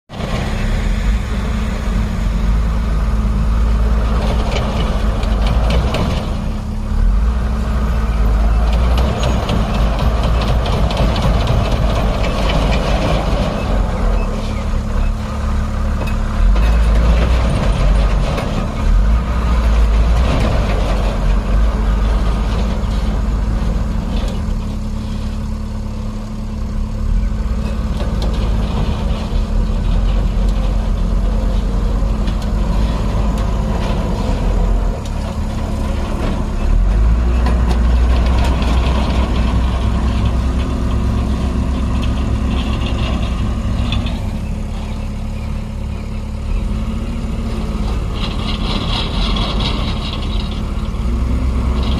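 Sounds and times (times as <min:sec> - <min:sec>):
diesel engine rumbling: 0:00.0 - 0:51.9.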